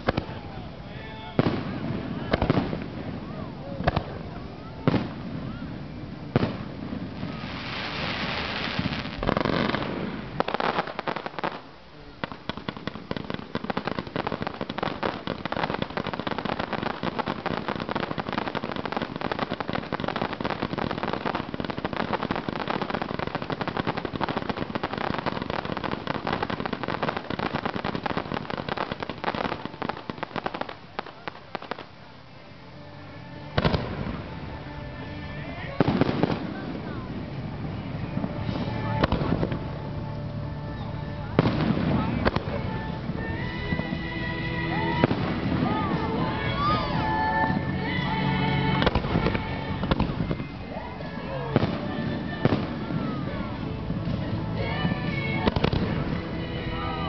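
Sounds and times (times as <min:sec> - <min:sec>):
rapid firework crackling: 0:00.0 - 0:32.4, 0:33.0 - 0:40.0, 0:40.8 - 0:57.0.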